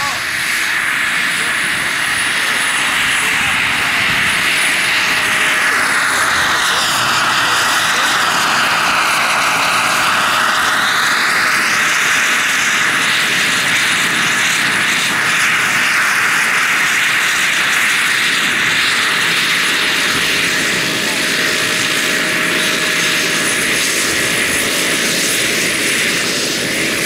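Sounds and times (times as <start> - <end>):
model helicopter turbine whine: 0.0 - 27.0.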